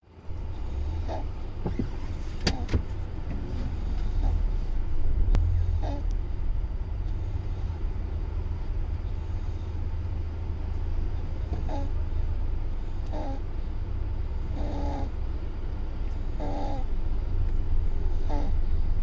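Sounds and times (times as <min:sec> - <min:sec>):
car cabin rumble while driving: 0:00.0 - 0:19.0.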